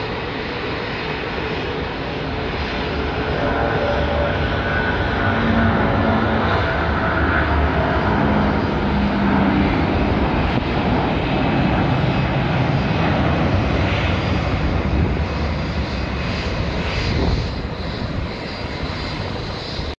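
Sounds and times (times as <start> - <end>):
jet engines roaring at takeoff: 0.0 - 19.9.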